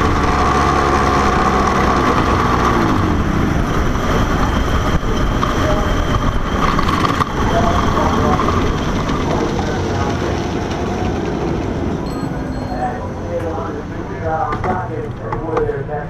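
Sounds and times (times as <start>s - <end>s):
kart engine at low revs: 0.0s - 15.7s.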